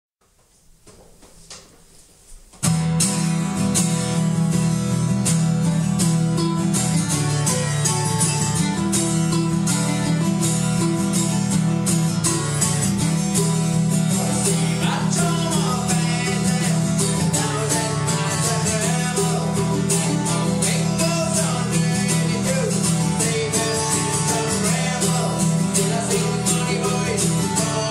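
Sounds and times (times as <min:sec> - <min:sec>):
acoustic guitar strumming: 0:02.4 - 0:27.9
mandolin strumming: 0:02.6 - 0:27.9.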